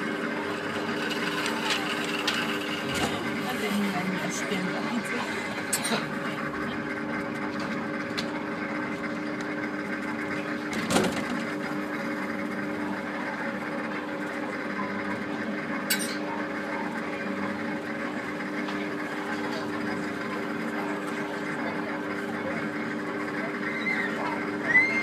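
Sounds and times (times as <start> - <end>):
ride car motor hum: 0.0 - 25.0.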